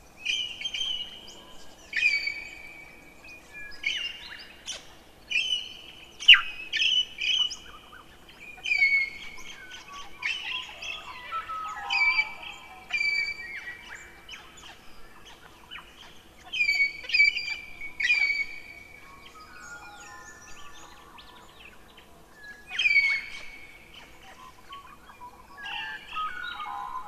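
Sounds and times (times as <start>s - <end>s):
birds singing: 0.0s - 27.0s.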